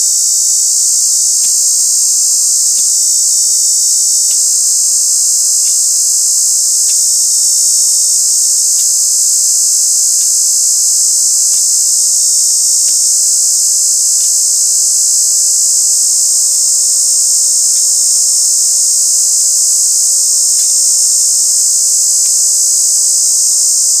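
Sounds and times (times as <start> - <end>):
cicada buzzing: 0.0 - 24.0.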